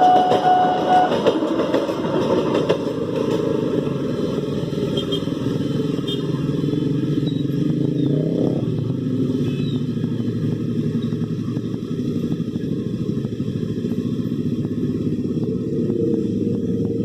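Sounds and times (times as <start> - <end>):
motorcycle engines running: 2.6 - 17.0.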